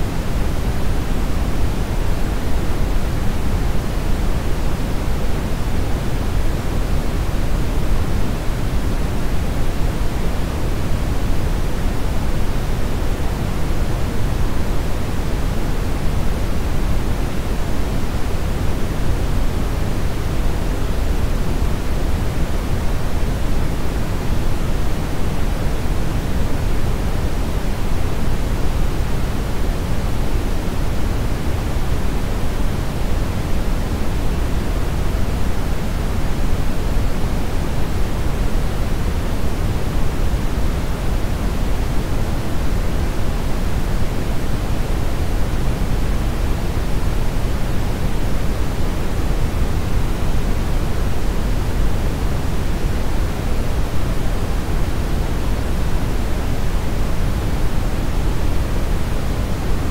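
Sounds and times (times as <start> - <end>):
brown noise hiss: 0.0 - 59.9.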